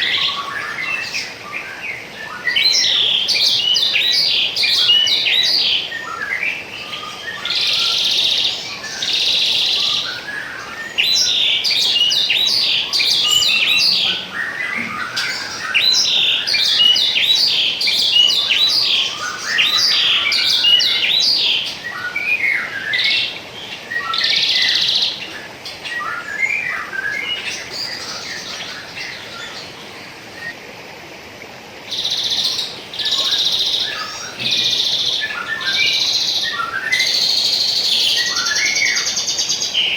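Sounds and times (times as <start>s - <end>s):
songbirds chirping and singing: 0.0s - 30.6s, 31.9s - 39.9s
flowing water: 0.0s - 39.9s.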